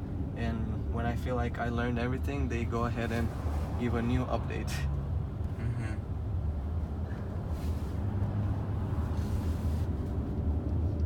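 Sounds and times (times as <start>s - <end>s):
road and tyre rumble in car cabin: 0.0s - 11.0s.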